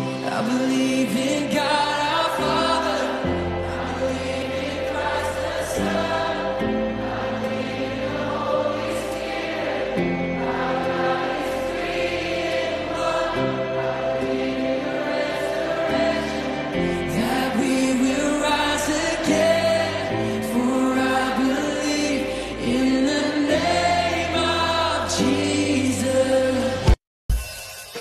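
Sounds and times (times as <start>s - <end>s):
slow choral music: 0.0s - 27.0s.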